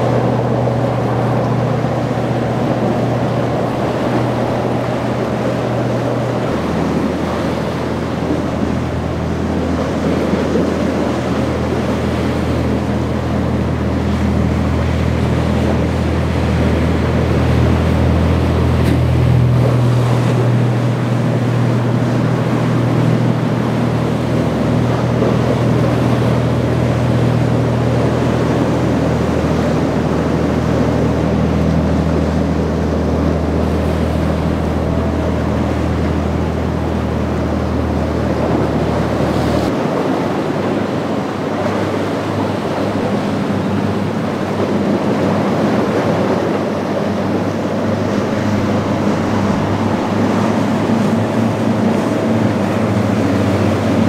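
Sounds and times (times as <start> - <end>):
boat engines humming: 0.0 - 54.0
surf breaking: 0.0 - 54.0.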